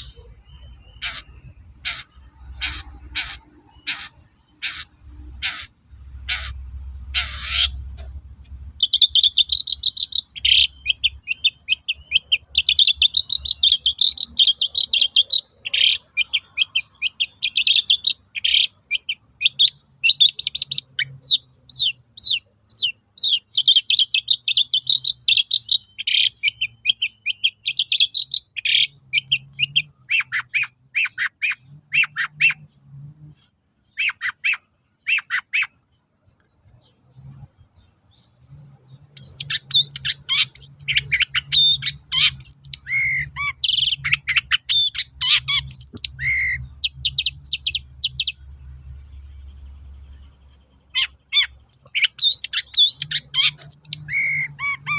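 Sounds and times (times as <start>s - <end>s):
bird harsh calls: 0.0s - 54.9s
bird warbling song: 0.0s - 54.9s.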